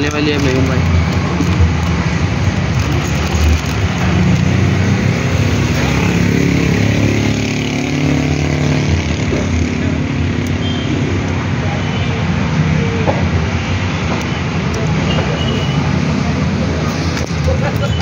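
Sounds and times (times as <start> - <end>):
vehicle engine noise: 0.0 - 18.0.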